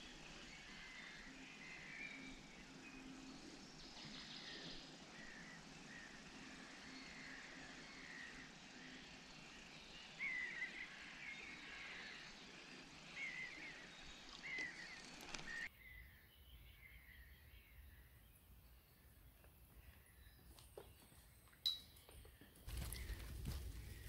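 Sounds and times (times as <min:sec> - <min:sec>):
bird chirping: 0:00.0 - 0:24.0
faint outdoor background noise: 0:00.0 - 0:24.0.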